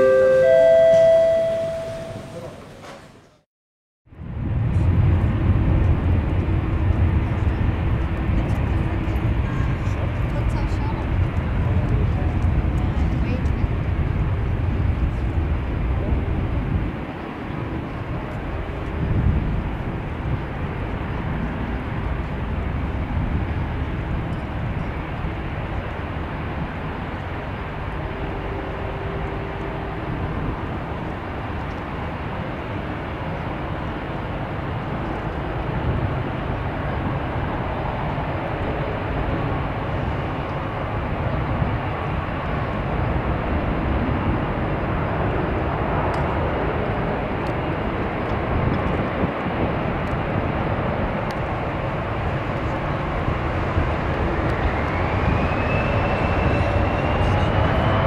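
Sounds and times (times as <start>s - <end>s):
jet engine roar: 4.2s - 58.0s.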